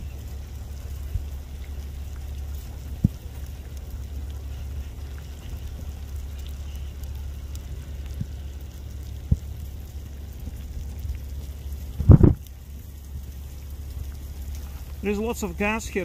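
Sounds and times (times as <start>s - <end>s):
lava crackling and hissing: 0.0s - 16.0s
low rumble: 0.0s - 16.0s.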